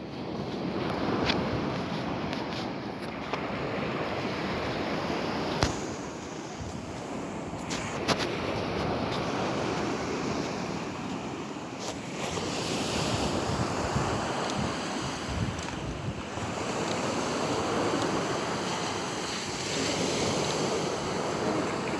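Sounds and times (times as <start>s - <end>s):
sea waves splashing: 0.0s - 21.9s
wind buffeting microphone: 0.0s - 21.9s.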